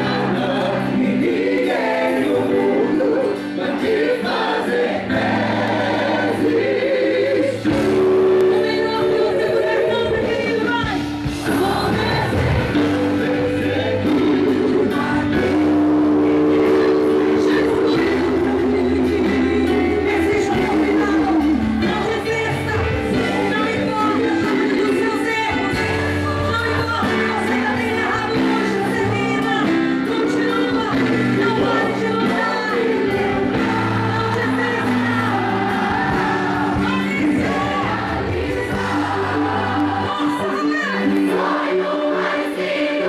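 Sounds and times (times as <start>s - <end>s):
woman singing into microphone: 0.0s - 5.2s, 5.8s - 43.0s
live band playing worship song: 0.0s - 43.0s
steady bass line: 4.1s - 41.2s.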